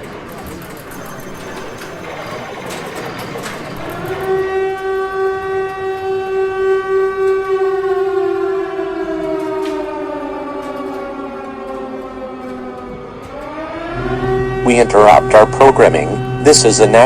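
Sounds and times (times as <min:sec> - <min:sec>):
civil defense siren: 0:00.0 - 0:17.0.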